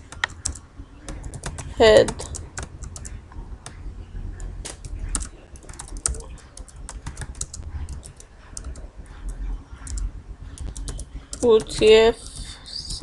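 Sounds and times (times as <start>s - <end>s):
keyboard typing: 0.0s - 3.8s, 4.4s - 13.0s
steady low rumble: 0.0s - 13.0s.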